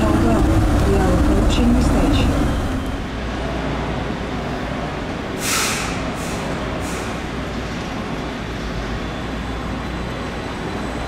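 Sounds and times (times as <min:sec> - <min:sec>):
train running low rumble: 0:00.0 - 0:11.0.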